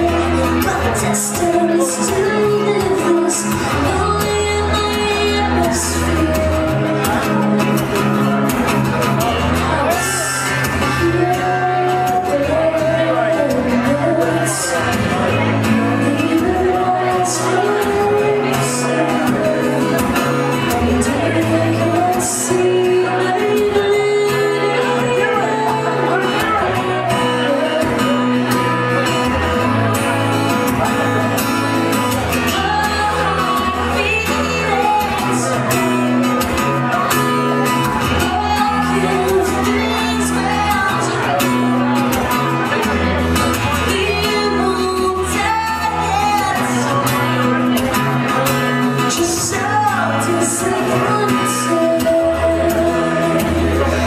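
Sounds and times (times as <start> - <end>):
woman singing: 0.0 - 8.3, 9.8 - 29.2, 32.2 - 36.4, 37.2 - 41.9, 43.5 - 47.6, 49.0 - 54.0
acoustic guitar playing: 0.0 - 54.0.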